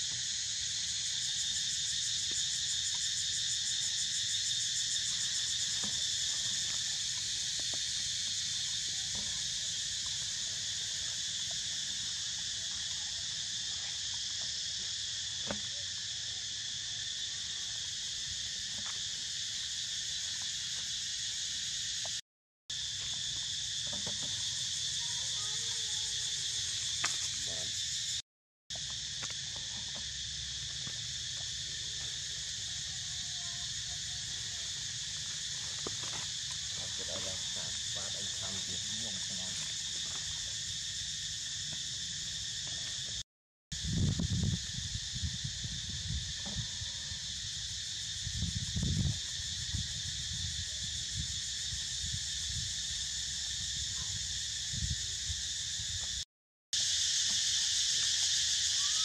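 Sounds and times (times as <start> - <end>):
high-pitched insect chorus: 0.0 - 56.2, 56.8 - 59.0.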